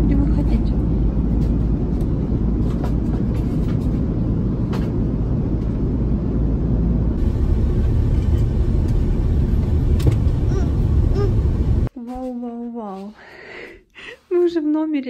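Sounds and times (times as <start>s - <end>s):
vehicle cabin rumble: 0.0s - 12.2s.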